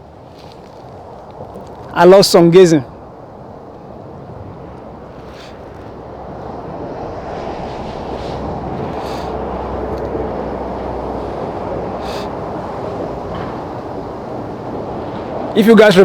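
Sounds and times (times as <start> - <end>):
heavy truck traffic rumble: 0.0 - 16.0.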